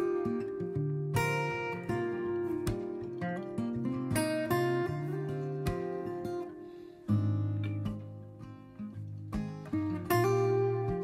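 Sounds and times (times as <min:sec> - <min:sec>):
acoustic guitar picked notes: 0:00.0 - 0:11.0
acoustic guitar strummed chords: 0:00.0 - 0:11.0.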